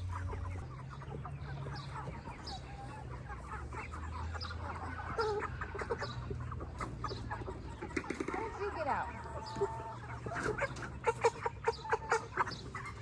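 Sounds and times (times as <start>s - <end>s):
chickens clucking and chirping: 0.0s - 13.0s.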